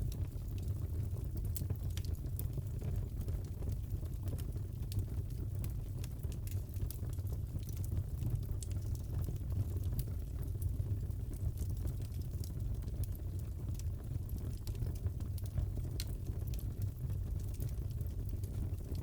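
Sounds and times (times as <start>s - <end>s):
fire burning rumble: 0.0s - 19.0s
fire crackles and pops: 0.0s - 19.0s.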